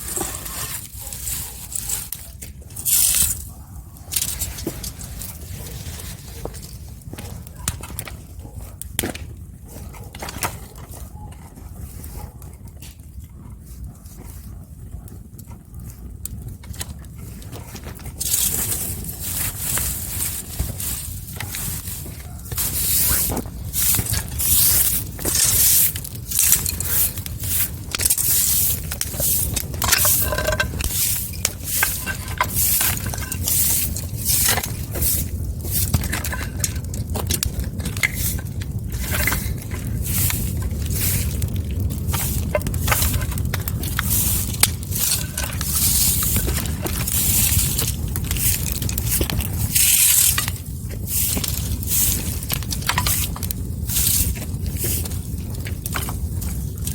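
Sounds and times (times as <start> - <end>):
fire crackling and popping: 0.0 - 56.9
wood fire rumbling: 0.0 - 56.9.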